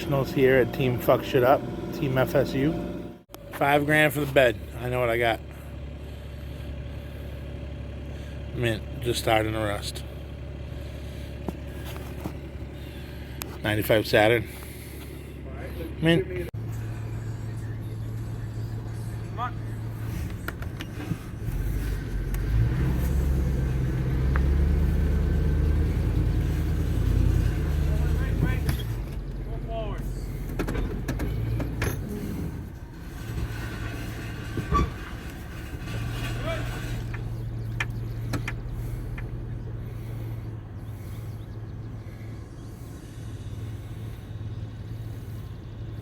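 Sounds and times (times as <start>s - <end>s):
vehicle engine revving: 0.0s - 46.0s.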